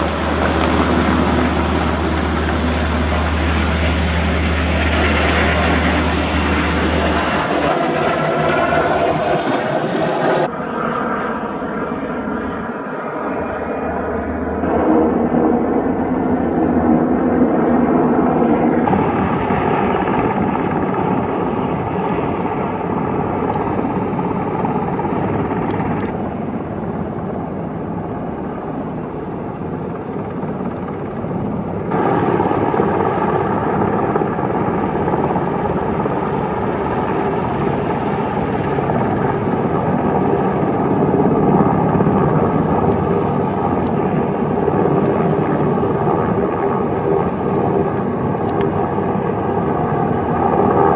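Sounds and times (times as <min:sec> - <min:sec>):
helicopter rotor and turbine noise: 0:00.0 - 0:50.9.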